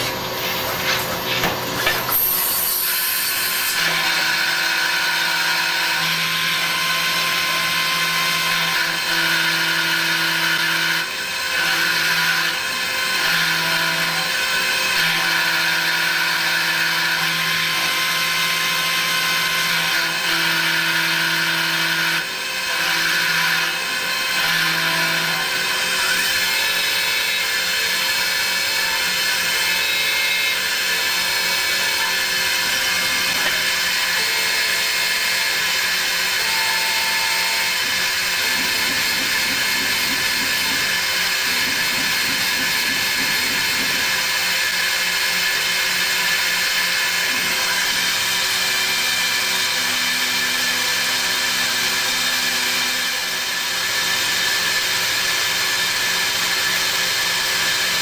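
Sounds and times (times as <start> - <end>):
lathe machining whir: 0.0 - 58.0.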